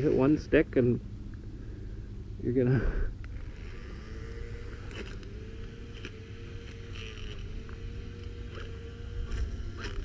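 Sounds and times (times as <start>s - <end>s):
small electric motor whining: 1.6s - 10.0s.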